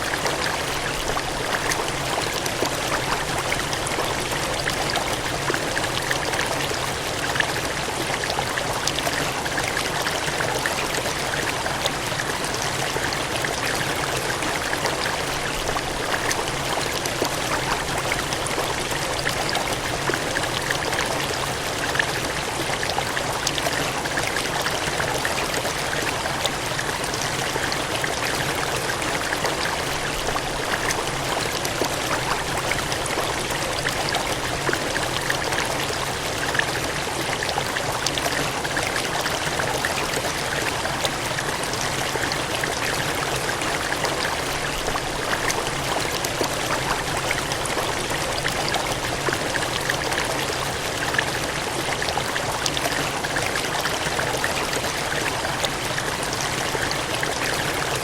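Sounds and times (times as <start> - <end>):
water gushing and cascading: 0.0 - 58.0.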